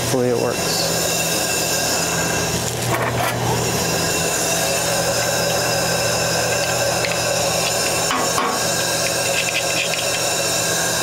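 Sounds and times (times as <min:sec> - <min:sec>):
machinery hum and hiss: 0:00.0 - 0:11.0.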